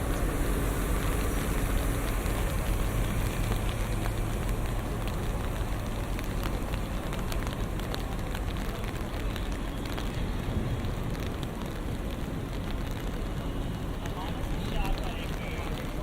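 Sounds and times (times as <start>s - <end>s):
rain on street: 0.0s - 16.0s
traffic rumble: 0.0s - 16.0s.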